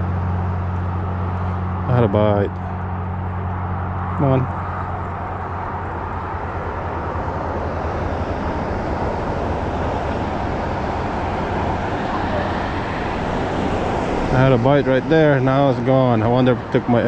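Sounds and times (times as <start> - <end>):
low engine drone: 0.0 - 17.0
outdoor noise: 0.0 - 17.0.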